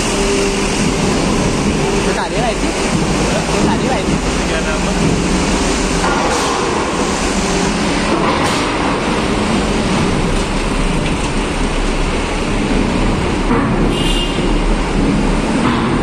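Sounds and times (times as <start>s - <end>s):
heavy trucks driving: 0.0s - 16.0s
clunks on steel ramp: 0.7s - 16.0s.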